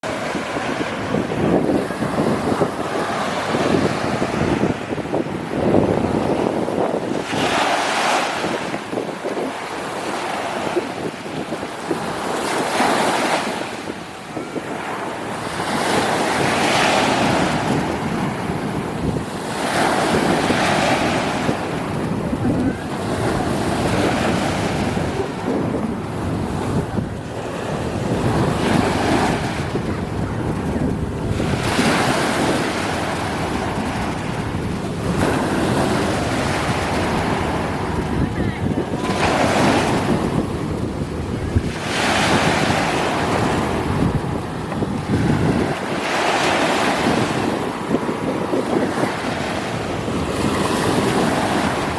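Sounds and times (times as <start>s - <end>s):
sea waves breaking: 0.0s - 51.9s
wind buffeting microphone: 0.0s - 51.9s.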